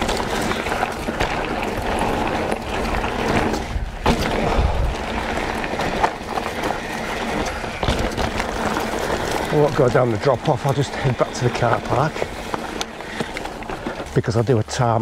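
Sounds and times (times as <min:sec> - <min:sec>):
bike knocking and rattling: 0:00.0 - 0:15.0
bike tyres rolling on gravel: 0:00.0 - 0:15.0.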